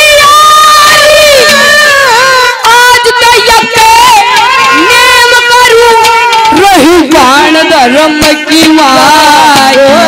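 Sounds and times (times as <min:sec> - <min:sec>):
instrumental accompaniment: 0:00.0 - 0:10.0
man singing into a microphone: 0:00.0 - 0:10.0.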